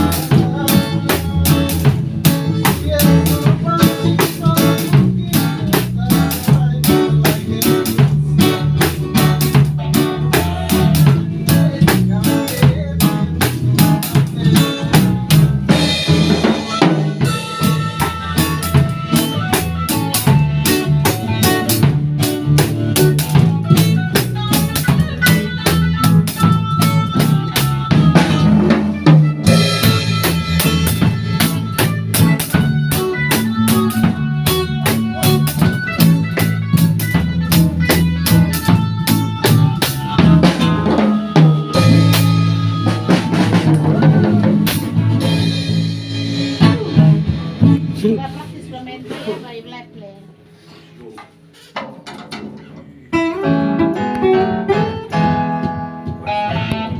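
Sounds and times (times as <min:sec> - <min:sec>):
bass drum and snare beat: 0:00.0 - 0:48.4
band playing: 0:00.0 - 0:50.7, 0:52.4 - 0:56.9.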